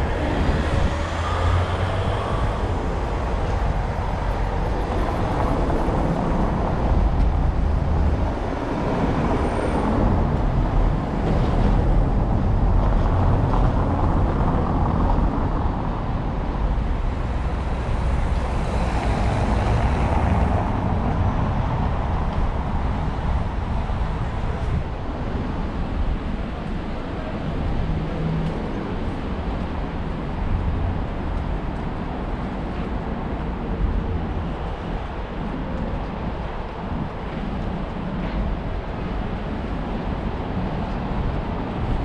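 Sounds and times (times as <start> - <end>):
traffic rumble: 0.0 - 42.0.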